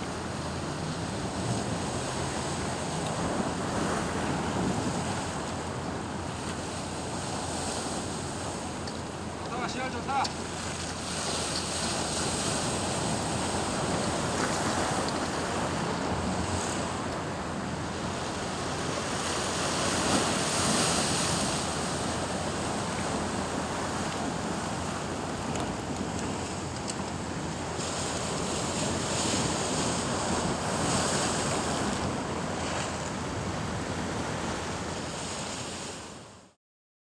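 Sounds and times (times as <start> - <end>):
surf washing against rocks: 0.0 - 36.2.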